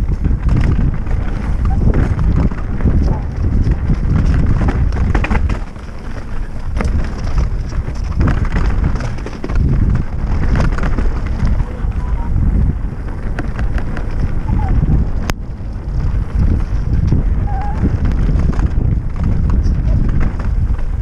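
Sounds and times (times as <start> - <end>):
bike rattling and clicking: 0.0 - 21.0
tyres rolling on wet dirt: 0.0 - 21.0
wind buffeting microphone: 0.0 - 21.0.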